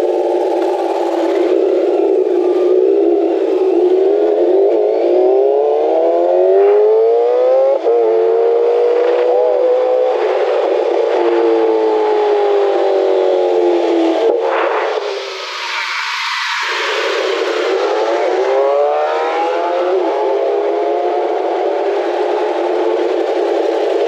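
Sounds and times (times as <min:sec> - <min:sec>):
sport bike engine revving: 0:00.1 - 0:14.3, 0:17.6 - 0:24.0.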